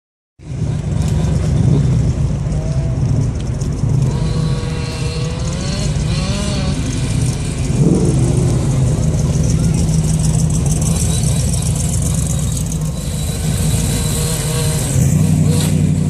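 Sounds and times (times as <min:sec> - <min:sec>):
toy car rumble: 0:00.5 - 0:16.0.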